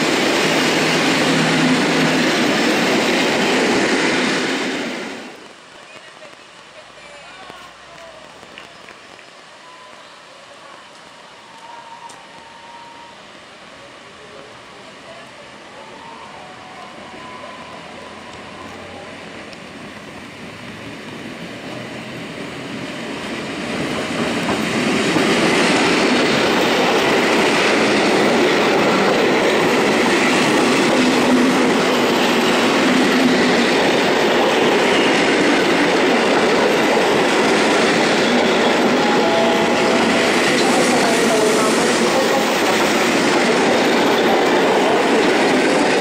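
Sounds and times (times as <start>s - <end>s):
train wheels rumbling on track: 0.0s - 9.8s, 16.0s - 46.0s.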